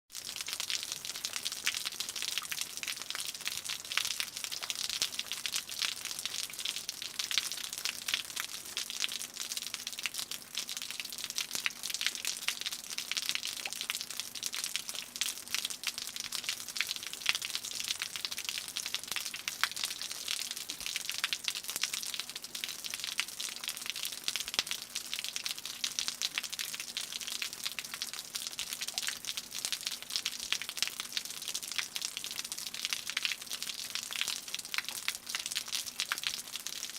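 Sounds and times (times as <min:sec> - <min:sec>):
rain dripping off a roof: 0:00.1 - 0:36.9.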